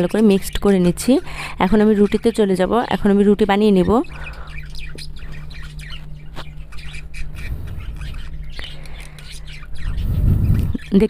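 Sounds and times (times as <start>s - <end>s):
birds calling: 0.0s - 11.0s
steady low hum: 0.0s - 11.0s.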